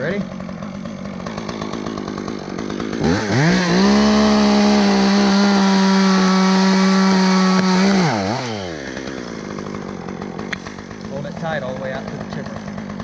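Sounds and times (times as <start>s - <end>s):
chainsaw revving and idling: 0.0s - 13.0s.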